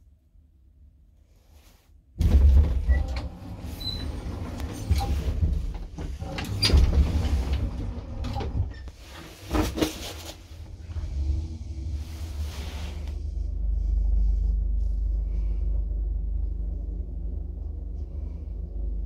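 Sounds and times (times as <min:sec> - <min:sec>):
elevator rumble: 0:02.2 - 0:19.0.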